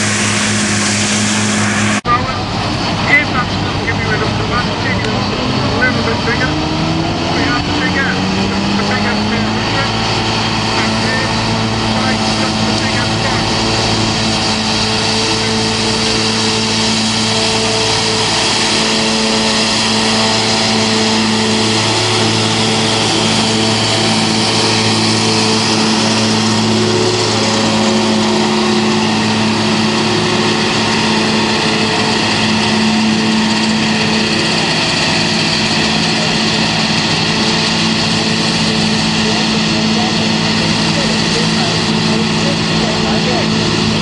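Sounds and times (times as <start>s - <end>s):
farm machinery engine running: 0.0s - 44.0s.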